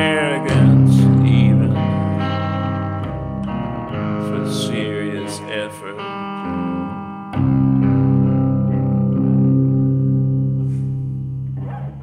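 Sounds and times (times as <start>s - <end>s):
electric guitar chord ringing: 0.0s - 12.0s.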